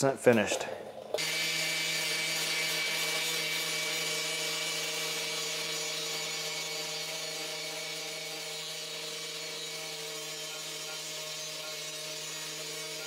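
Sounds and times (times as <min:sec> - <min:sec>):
angle grinder grinding metal: 0:00.2 - 0:13.0.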